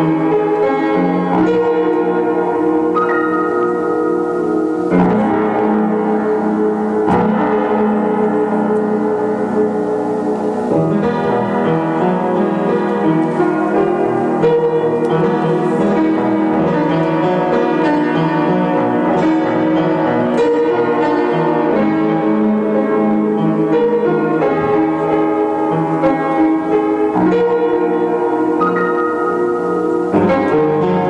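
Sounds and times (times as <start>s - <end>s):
solo keyboard chords and melody: 0.0s - 31.0s.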